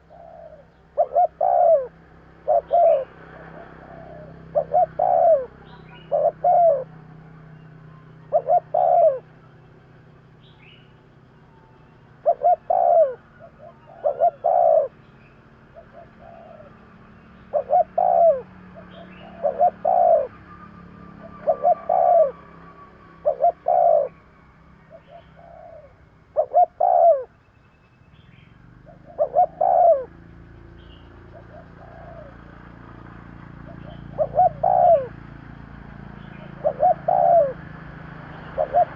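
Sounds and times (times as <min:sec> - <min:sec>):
dove cooing: 0:00.0 - 0:09.6, 0:10.4 - 0:24.2, 0:24.8 - 0:27.3, 0:28.8 - 0:30.2, 0:31.0 - 0:38.9.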